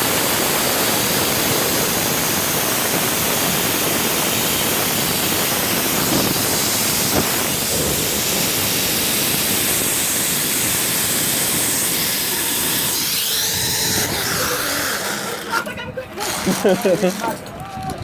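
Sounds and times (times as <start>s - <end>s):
wind rushing over microphone: 0.0s - 18.0s
zip-line pulleys running on cable: 0.0s - 18.0s.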